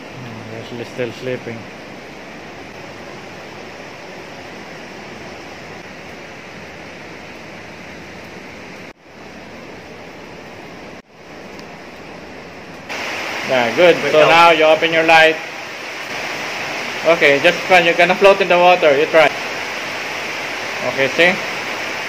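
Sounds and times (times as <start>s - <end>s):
water rushing in a cave: 0.0s - 22.0s.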